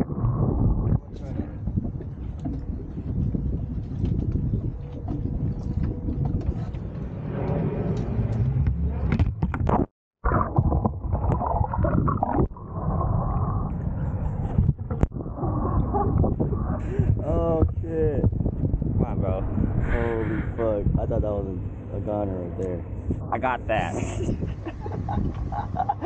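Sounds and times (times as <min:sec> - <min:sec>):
muffled underwater gurgling and sloshing: 0:00.0 - 0:08.3, 0:10.2 - 0:26.0
wind on microphone: 0:00.0 - 0:26.0.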